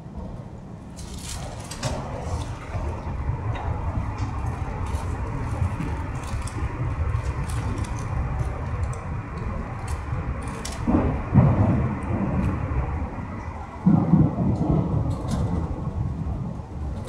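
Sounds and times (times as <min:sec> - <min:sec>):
train cabin rumble: 0:00.0 - 0:17.0
light rattles and clicks: 0:01.0 - 0:17.0.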